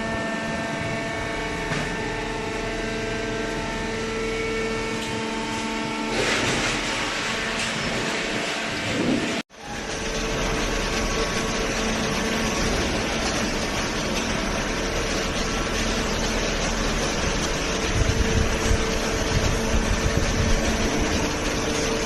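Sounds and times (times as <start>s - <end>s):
baler motor and pump whirring: 0.0s - 22.0s.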